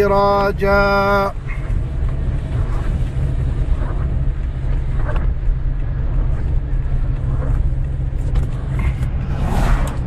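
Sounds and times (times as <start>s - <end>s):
wind buffeting microphone: 1.3s - 10.0s.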